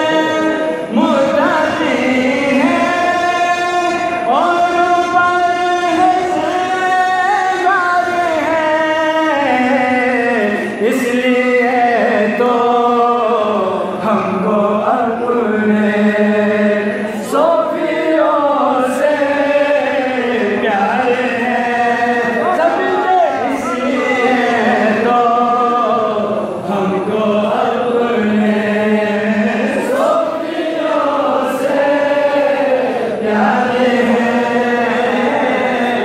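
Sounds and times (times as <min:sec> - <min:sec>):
man singing devotional song: 0:00.0 - 0:36.0.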